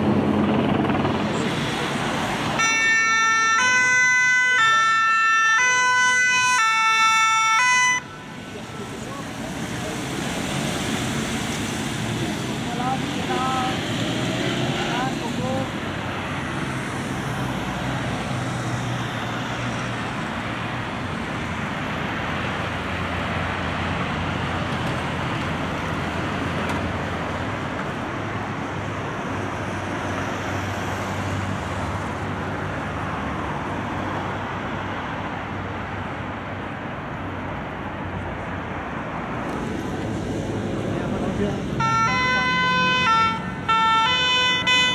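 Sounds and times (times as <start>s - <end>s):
city street traffic: 0.0s - 44.9s.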